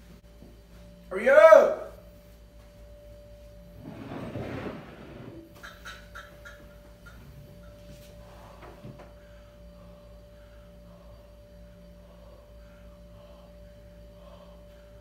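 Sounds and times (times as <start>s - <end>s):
electrical hum: 0.0s - 15.0s
faint steady whine: 0.0s - 15.0s.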